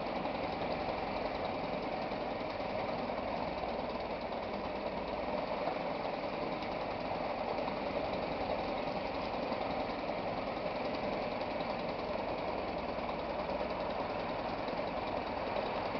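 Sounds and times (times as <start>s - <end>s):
outboard motor running: 0.0s - 15.9s.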